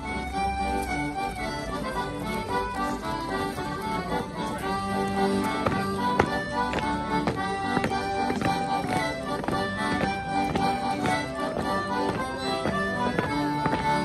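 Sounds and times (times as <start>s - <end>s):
accordion playing a dance tune: 0.0s - 14.0s
sharp clicks keeping time: 0.0s - 14.0s.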